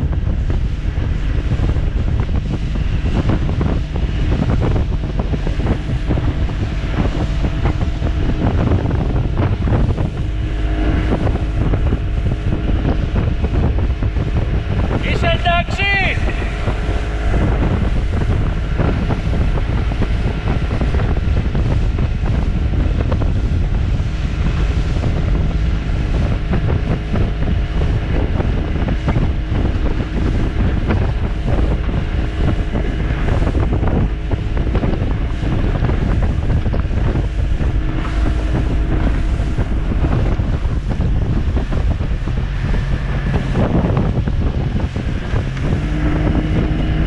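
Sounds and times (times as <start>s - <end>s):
churning water wake: 0.0s - 47.0s
outboard motor drone: 0.0s - 47.0s
wind buffeting microphone: 0.0s - 47.0s.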